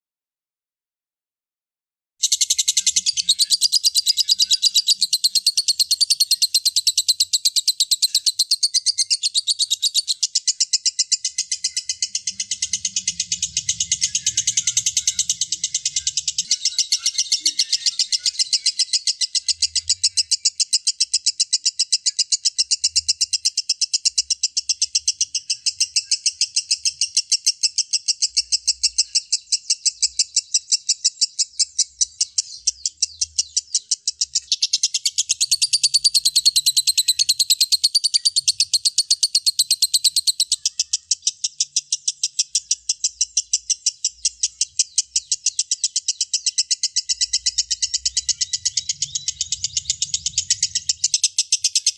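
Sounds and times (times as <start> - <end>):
lovebird chattering: 2.2 - 51.9.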